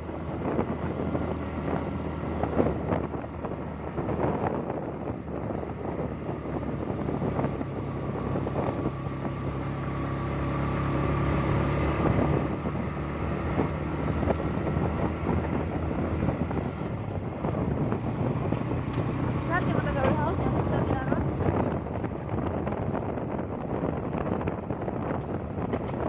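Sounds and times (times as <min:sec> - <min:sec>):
engine running: 0:00.0 - 0:26.0
wind buffeting microphone: 0:00.0 - 0:26.0.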